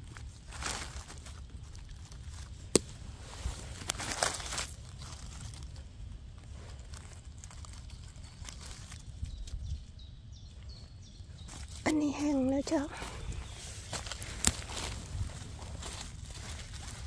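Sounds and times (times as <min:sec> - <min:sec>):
dry leaves crackling and rustling: 0:00.0 - 0:10.6, 0:11.2 - 0:17.0.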